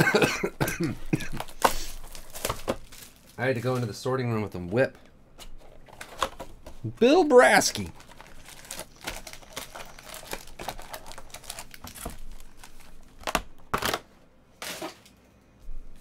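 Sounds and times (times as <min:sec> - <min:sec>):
foil wrappers crinkling and rustling: 0:00.6 - 0:04.8, 0:05.6 - 0:15.1.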